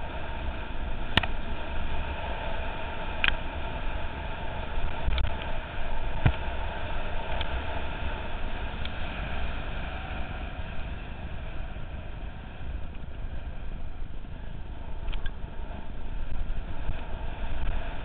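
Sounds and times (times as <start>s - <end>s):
bike tyres on gravel: 0.0s - 18.0s
wind noise: 0.0s - 18.0s.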